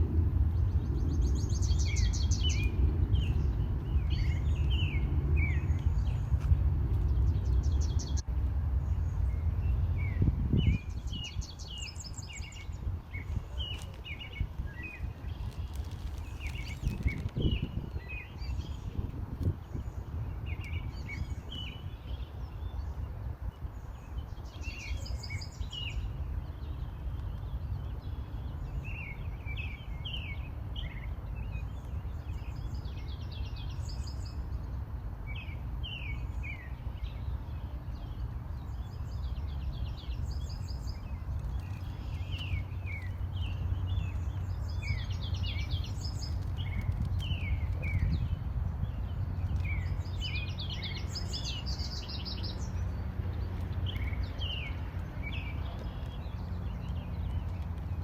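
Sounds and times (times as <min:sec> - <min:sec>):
songbirds chirping: 0:00.0 - 0:58.0
steady low rumble: 0:00.0 - 0:58.0.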